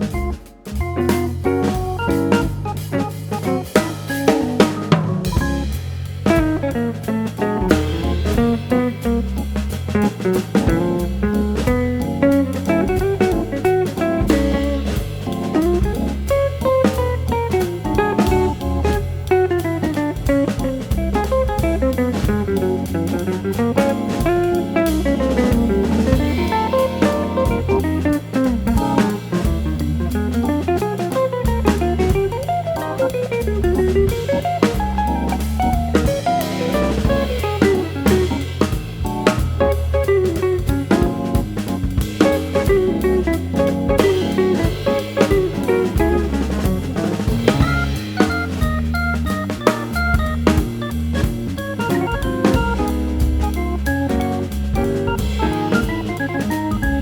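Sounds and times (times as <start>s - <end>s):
drum kit beat: 0.0s - 57.0s
instrumental music with guitar: 0.0s - 57.0s.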